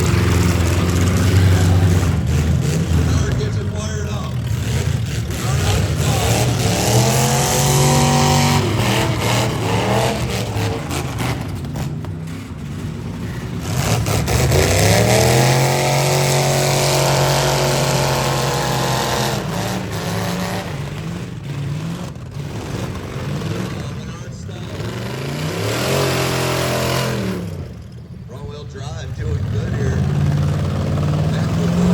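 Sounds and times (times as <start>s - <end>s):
car engines revving hard: 0.0s - 31.9s.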